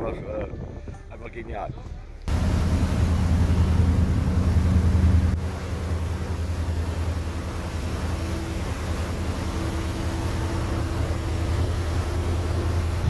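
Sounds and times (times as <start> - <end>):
machinery low drone: 2.3 - 13.0.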